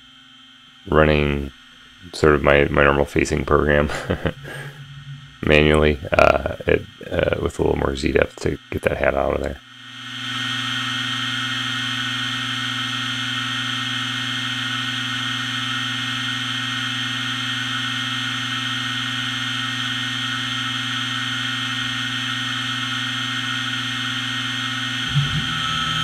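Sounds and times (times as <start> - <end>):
spindle motor humming and whining: 0.0 - 26.0.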